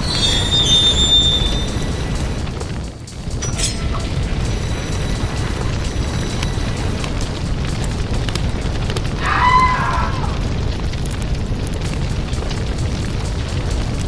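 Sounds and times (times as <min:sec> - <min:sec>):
deep rumble with crackles: 0:00.0 - 0:14.0.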